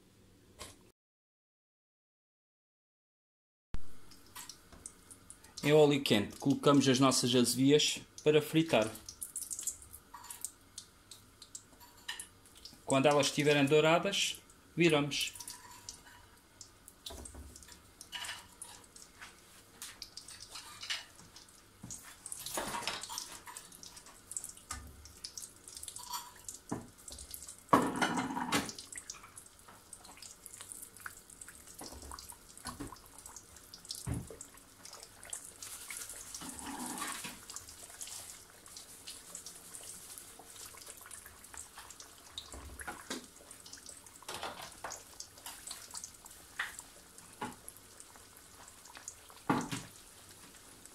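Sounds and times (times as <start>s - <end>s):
pastries sizzling in hot oil: 4.1s - 50.9s.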